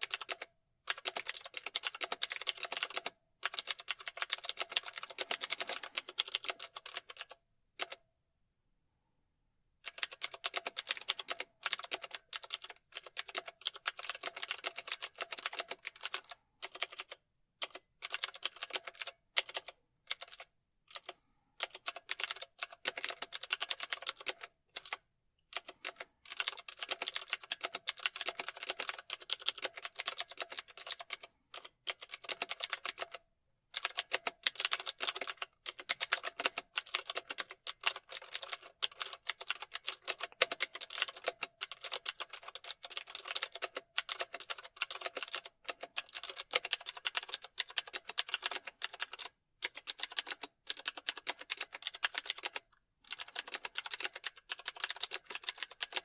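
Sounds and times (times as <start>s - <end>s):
computer keyboard typing: 0.0s - 8.0s, 9.8s - 56.0s.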